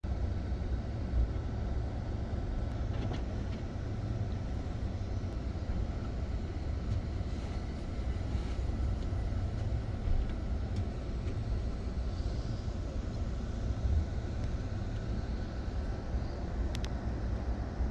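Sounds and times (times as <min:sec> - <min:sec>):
passenger train rumbling: 0:00.1 - 0:17.9
faint clicks of train: 0:02.2 - 0:17.9.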